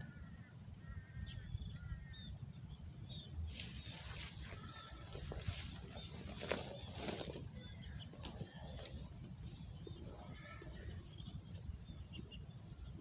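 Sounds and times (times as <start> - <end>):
high-pitched insect whine: 0.0 - 13.0.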